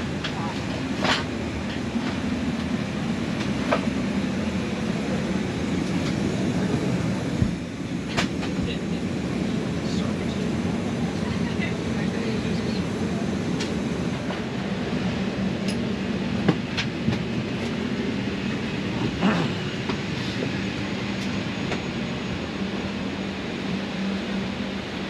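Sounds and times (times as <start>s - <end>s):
mechanical hum and rumble: 0.0s - 25.0s.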